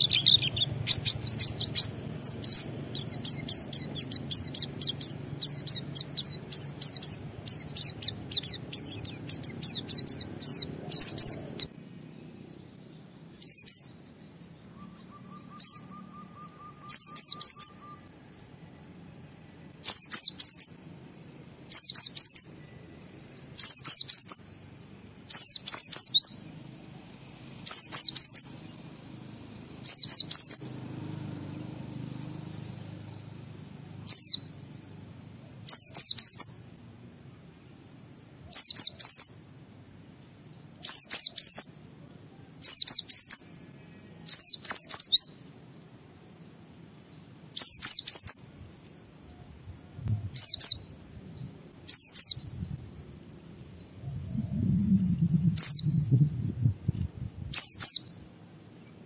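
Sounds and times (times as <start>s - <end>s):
bird singing high thin chirps: 0.0s - 30.8s, 31.5s - 36.7s, 37.8s - 39.5s, 40.3s - 41.9s, 42.5s - 59.0s.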